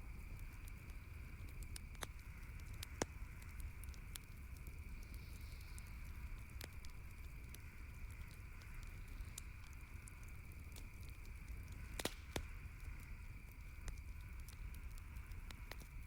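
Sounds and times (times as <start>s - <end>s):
campfire crackling and popping: 0.0s - 16.0s
low fire rumble: 0.0s - 16.0s.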